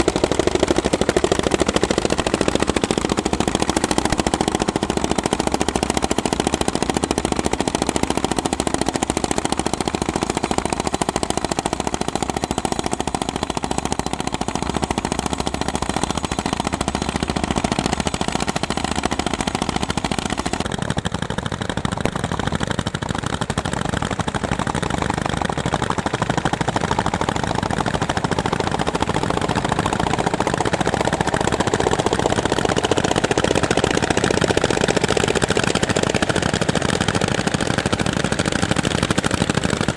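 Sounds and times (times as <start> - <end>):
tractor engines thumping: 0.0 - 39.9.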